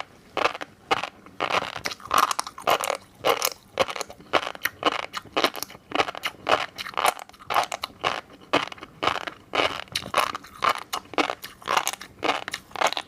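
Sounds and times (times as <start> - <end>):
crackly chewing: 0.0 - 13.0.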